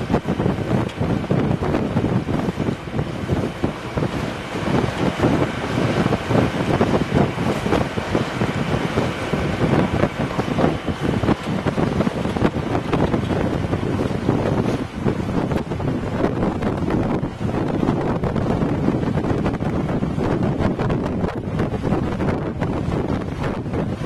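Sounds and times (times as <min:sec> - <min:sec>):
gusty wind buffeting microphone: 0:00.0 - 0:24.0
sea rushing: 0:00.0 - 0:24.0.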